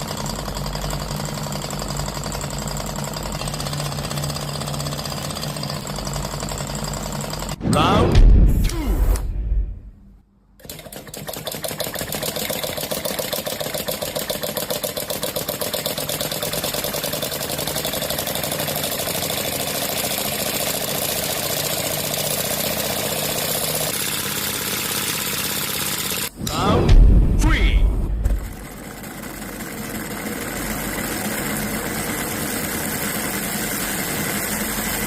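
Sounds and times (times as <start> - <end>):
small engine running: 0.0 - 7.6, 10.6 - 35.0.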